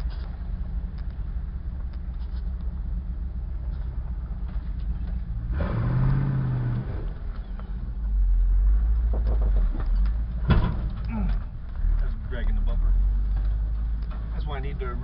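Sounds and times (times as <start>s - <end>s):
truck engine rumbling and revving: 0.0s - 15.0s.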